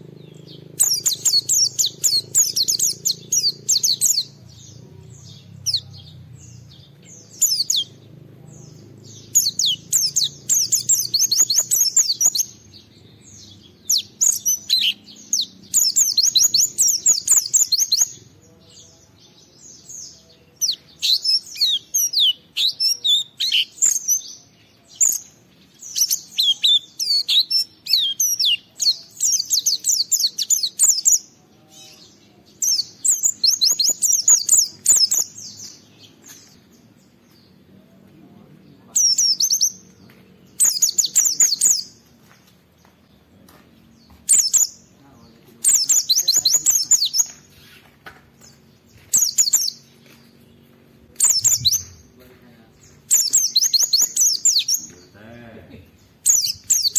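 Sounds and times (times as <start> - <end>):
bird twittering chirps: 0.0 - 37.7, 38.5 - 56.9.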